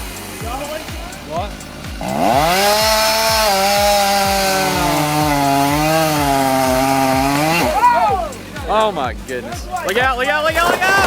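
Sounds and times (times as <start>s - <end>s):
chainsaw revving while cutting: 0.0s - 9.3s.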